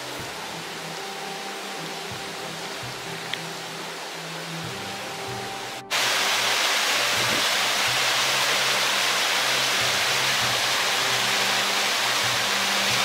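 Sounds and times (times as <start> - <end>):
quiet lakeside ambience: 0.0 - 13.0
river rapids rushing: 0.0 - 13.0
soft background music: 0.0 - 13.0.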